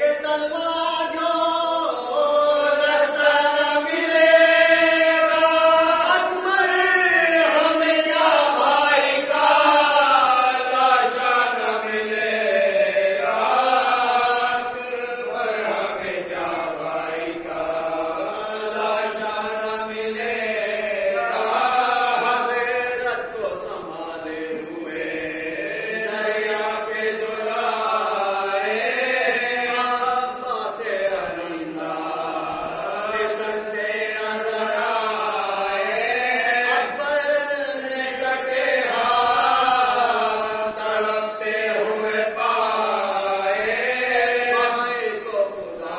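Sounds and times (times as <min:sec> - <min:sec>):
men chanting together: 0:00.0 - 0:45.9.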